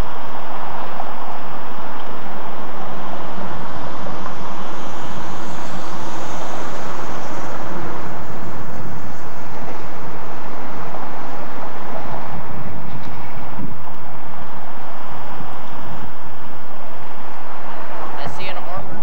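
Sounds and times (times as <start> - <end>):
city traffic and street noise: 0.0 - 19.0.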